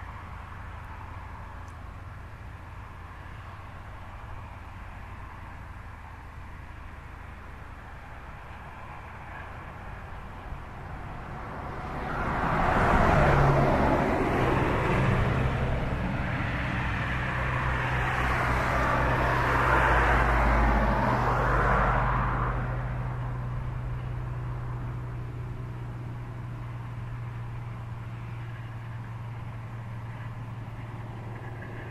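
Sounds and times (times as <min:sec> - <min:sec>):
distant tractor engine droning: 0:00.0 - 0:31.9.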